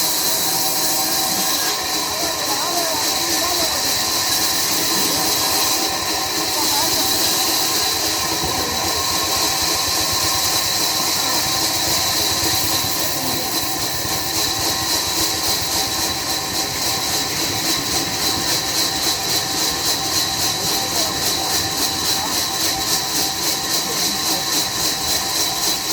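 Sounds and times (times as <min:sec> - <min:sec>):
machinery hum: 0:00.0 - 0:25.9
sawmill machinery hissing: 0:00.0 - 0:25.9.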